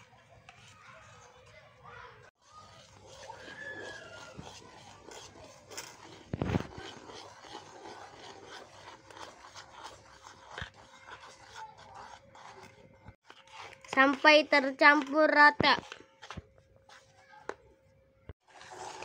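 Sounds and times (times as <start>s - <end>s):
spoon scraping batter in bowl: 0.0s - 17.6s, 18.4s - 19.0s.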